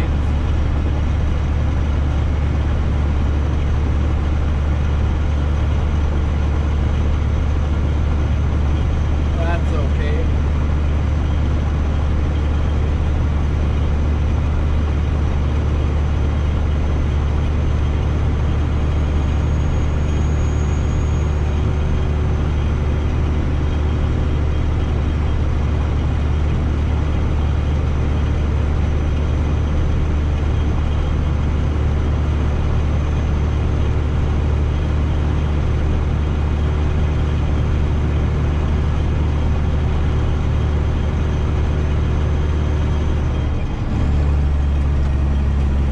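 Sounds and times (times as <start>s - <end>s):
truck engine and road drone: 0.0s - 45.9s.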